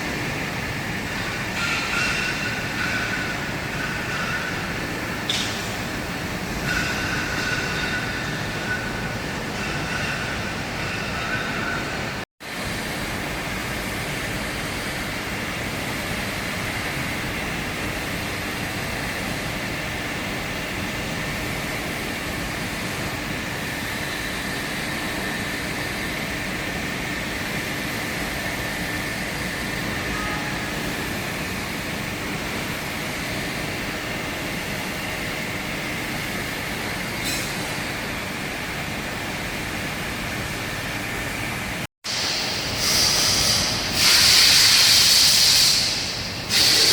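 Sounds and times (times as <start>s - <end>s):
refrigeration machine hum and hiss: 0.0s - 46.9s.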